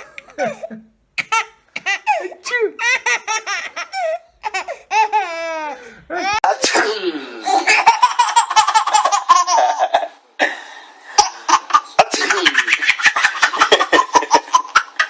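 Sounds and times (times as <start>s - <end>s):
baby laughing: 0.0s - 6.6s, 7.4s - 10.1s, 11.2s - 15.0s.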